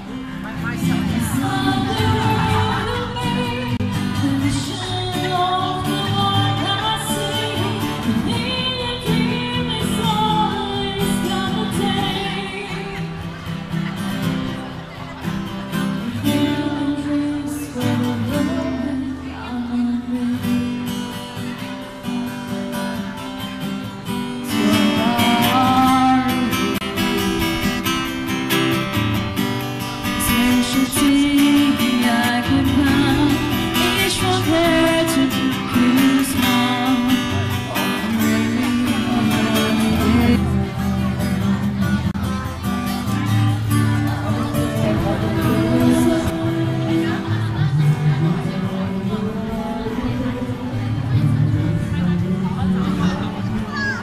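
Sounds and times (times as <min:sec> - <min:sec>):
acoustic guitar strumming: 0:00.0 - 0:54.0
person singing: 0:01.0 - 0:13.4, 0:16.0 - 0:21.1, 0:24.4 - 0:28.8, 0:29.9 - 0:42.1, 0:44.0 - 0:54.0.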